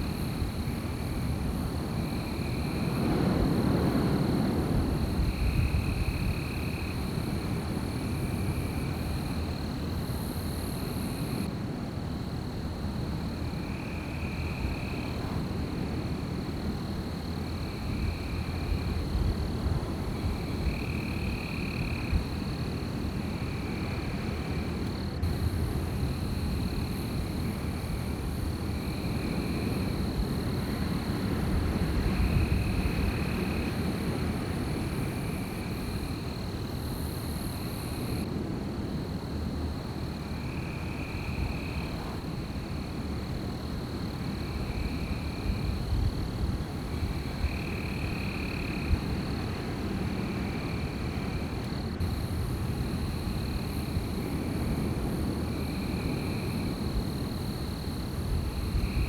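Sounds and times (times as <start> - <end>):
wind blowing through trees: 0.0 - 11.6, 12.6 - 59.0
high drone of night wildlife: 0.0 - 59.0.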